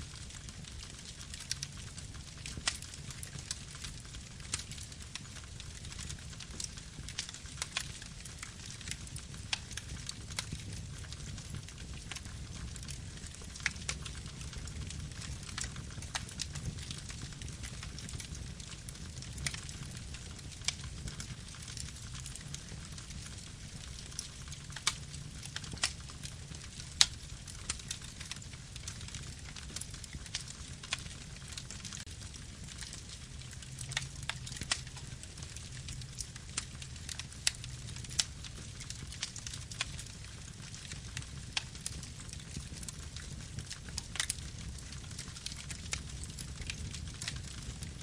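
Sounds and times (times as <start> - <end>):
burning wood crackling and popping: 0.0 - 48.0
campfire low rumble: 0.0 - 48.0.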